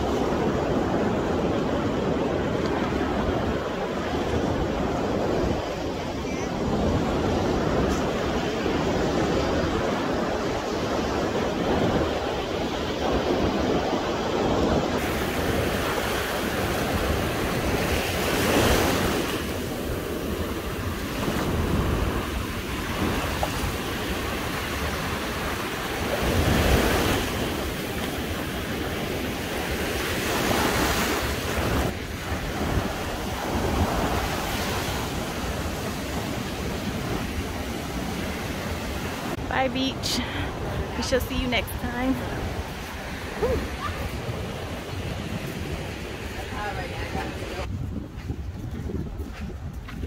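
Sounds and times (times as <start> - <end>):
sea waves washing onto beach: 0.0 - 47.7
wind on microphone: 0.0 - 50.0.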